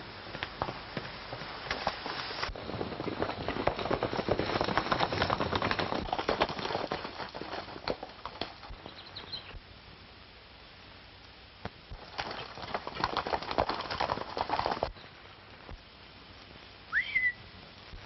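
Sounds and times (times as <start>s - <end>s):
horses galloping hoofbeats: 0.0s - 10.1s, 11.6s - 16.4s.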